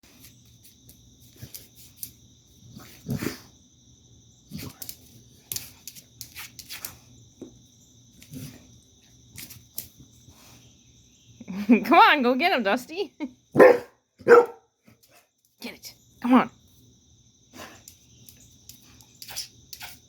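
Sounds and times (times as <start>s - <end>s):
high insect drone: 0.1s - 13.6s, 14.4s - 20.0s.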